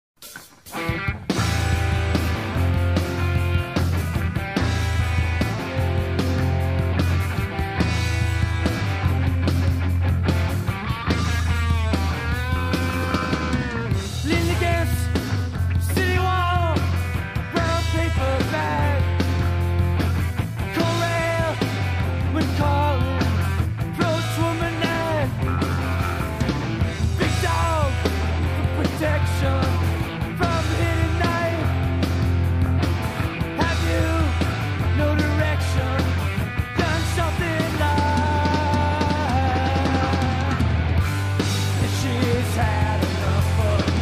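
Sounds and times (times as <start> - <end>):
rock band playing: 0.2 - 44.0.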